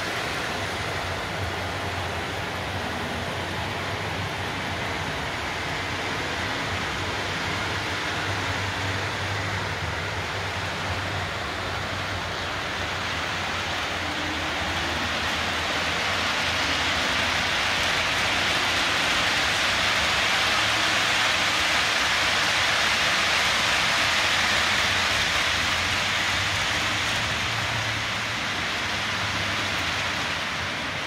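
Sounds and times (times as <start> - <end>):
model train wheels on rails: 0.0 - 31.0.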